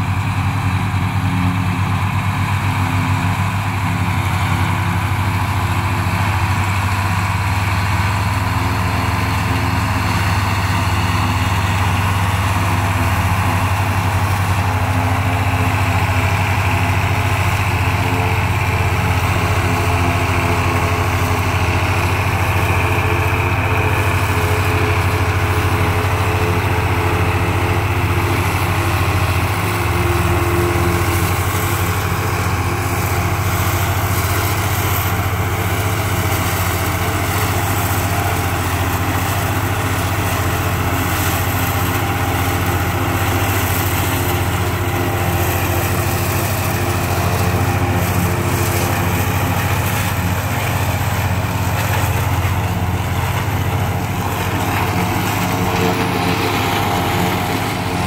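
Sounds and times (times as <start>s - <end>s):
forage chopper cutting corn: 0.0s - 58.0s
tractor engines running: 0.0s - 58.0s.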